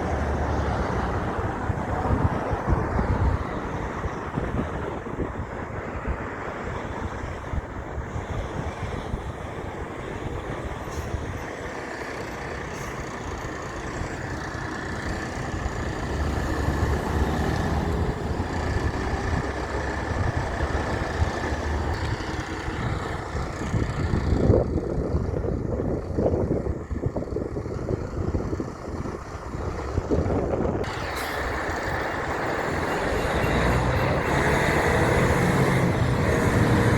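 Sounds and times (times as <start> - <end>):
truck engine rumble: 0.0 - 36.9
truck tyre noise: 0.0 - 36.9.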